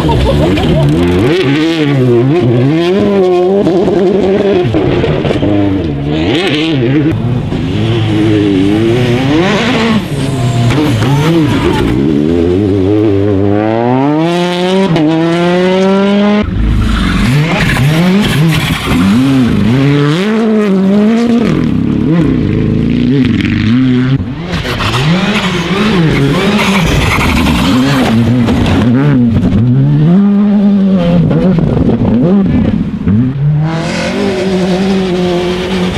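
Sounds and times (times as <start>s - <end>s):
rally car engines revving past: 0.0s - 35.9s.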